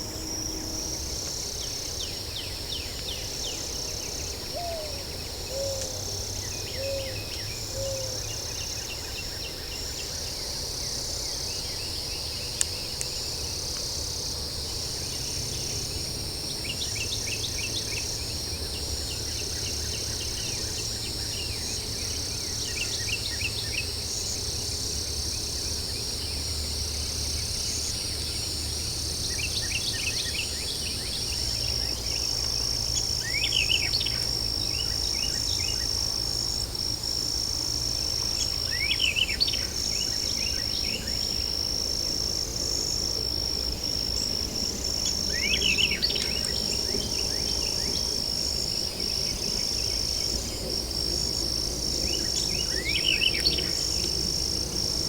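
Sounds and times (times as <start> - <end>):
insect chirping calls: 0.0 - 55.0
insects trilling: 0.0 - 55.0.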